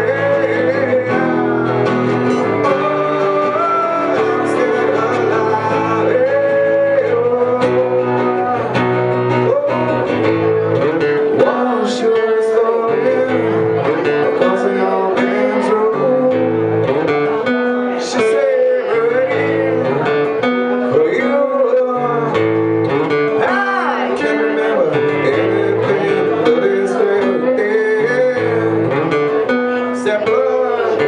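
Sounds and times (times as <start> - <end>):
acoustic guitar chords: 0.0 - 31.0
person singing: 0.0 - 31.0.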